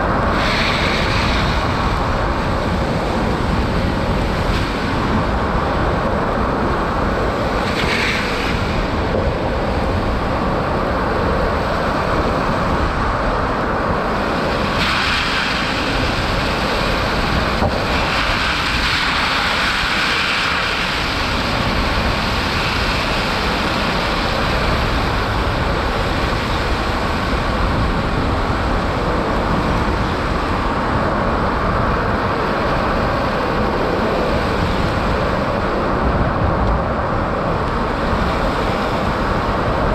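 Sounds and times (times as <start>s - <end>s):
tyre noise on snowy road: 0.0s - 39.9s
wind noise: 0.0s - 39.9s.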